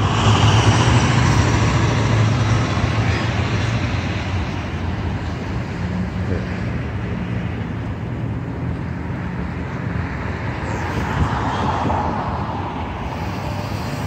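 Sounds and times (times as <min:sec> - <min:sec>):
heavy vehicle engine droning: 0:00.0 - 0:14.0.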